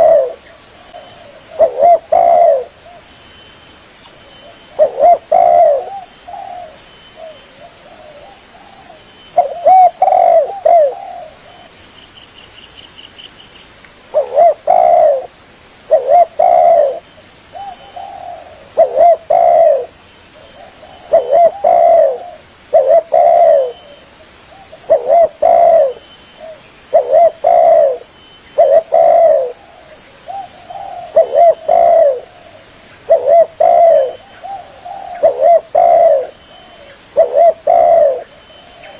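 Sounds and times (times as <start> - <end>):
dove cooing: 0.0 - 3.1, 4.4 - 11.8, 14.1 - 15.3, 15.9 - 38.9.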